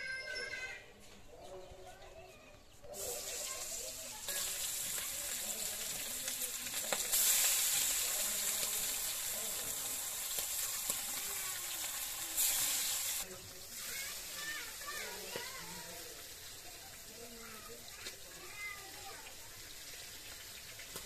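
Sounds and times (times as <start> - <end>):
fish sizzling in hot oil: 2.9 - 21.0.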